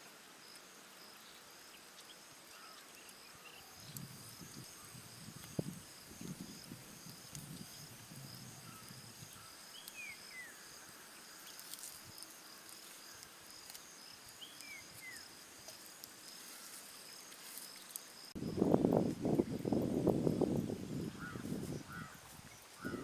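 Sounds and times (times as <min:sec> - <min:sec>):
crickets chirping: 0:00.2 - 0:23.0
wood fire crackling: 0:03.8 - 0:23.0.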